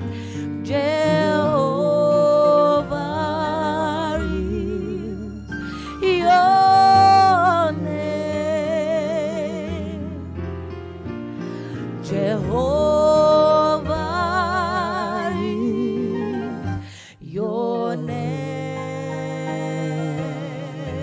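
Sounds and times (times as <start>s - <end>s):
gospel singing with vibrato: 0.0s - 10.4s, 11.6s - 21.0s.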